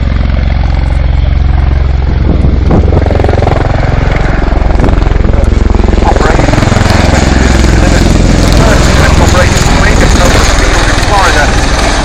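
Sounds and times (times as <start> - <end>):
tiltrotor aircraft flying overhead: 0.0 - 12.0.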